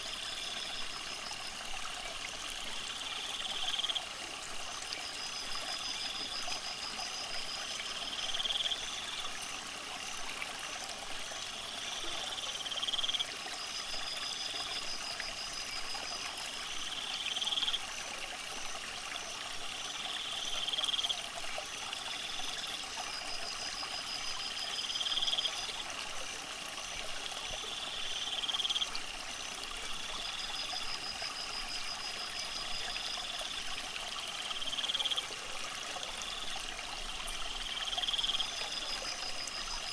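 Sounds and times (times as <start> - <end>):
trickling aquarium water: 0.0 - 39.9.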